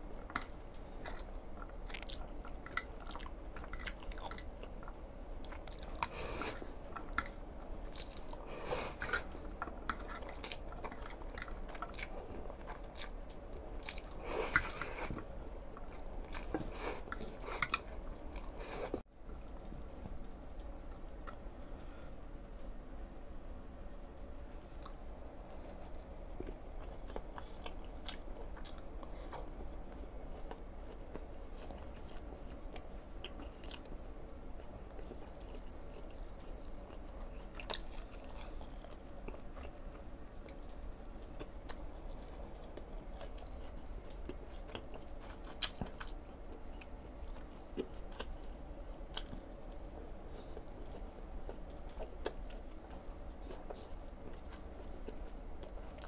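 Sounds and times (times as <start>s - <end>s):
chewing sausage: 0.0s - 21.5s, 24.2s - 56.0s.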